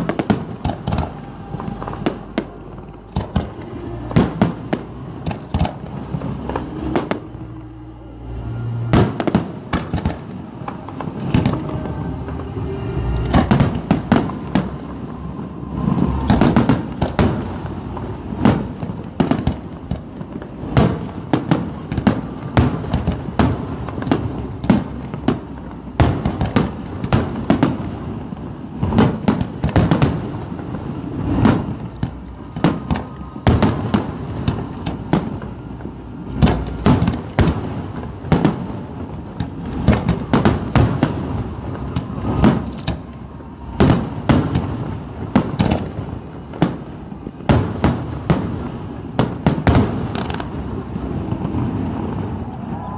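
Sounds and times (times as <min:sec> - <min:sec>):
fireworks bursting with sharp bangs: 0:00.0 - 0:52.9.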